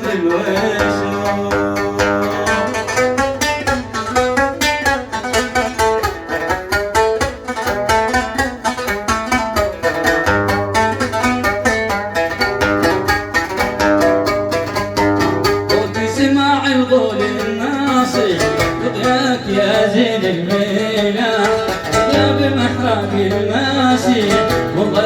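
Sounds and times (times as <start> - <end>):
plucked string instrument melody: 0.0 - 25.0.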